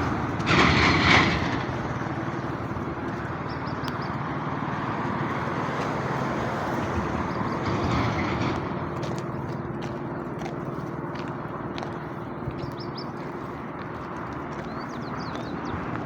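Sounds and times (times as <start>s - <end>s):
road traffic rush: 0.0s - 16.0s
vehicle passing: 0.0s - 16.0s.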